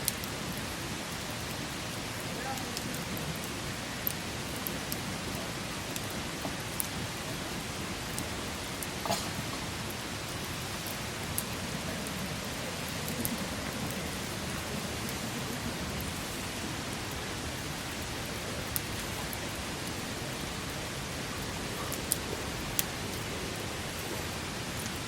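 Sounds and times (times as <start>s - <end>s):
campfire hissing and crackling: 0.0s - 25.0s
fire popping: 0.0s - 25.0s.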